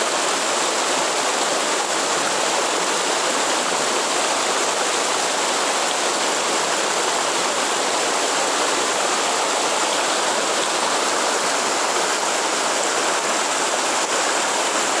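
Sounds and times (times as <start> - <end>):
waterfall and stream rushing: 0.0 - 15.0.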